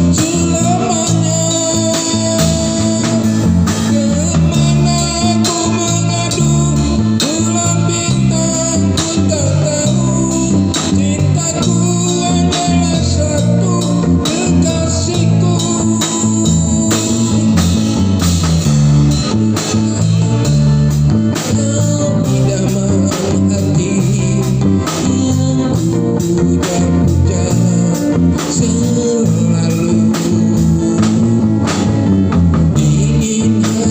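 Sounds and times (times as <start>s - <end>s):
rock music over loudspeakers: 0.0s - 33.9s.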